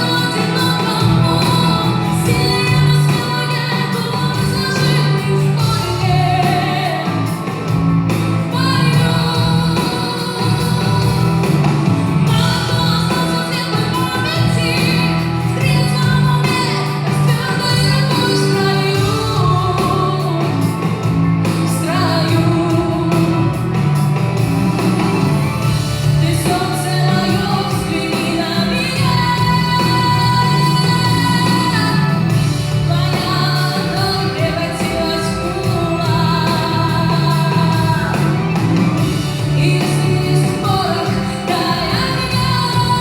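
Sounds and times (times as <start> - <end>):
instrumental accompaniment: 0.0 - 43.0
woman singing: 0.0 - 43.0.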